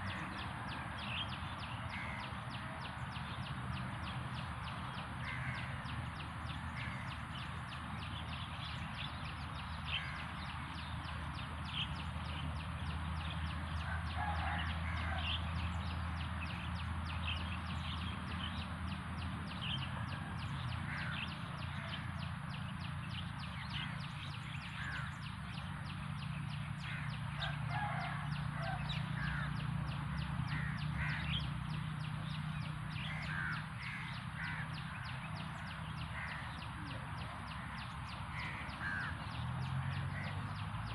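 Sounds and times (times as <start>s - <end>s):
birds calling: 0.0s - 40.9s.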